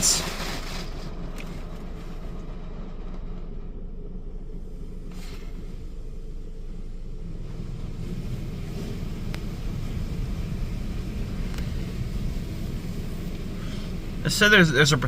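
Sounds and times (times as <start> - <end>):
water spraying on car body: 0.0 - 2.4, 4.6 - 15.0.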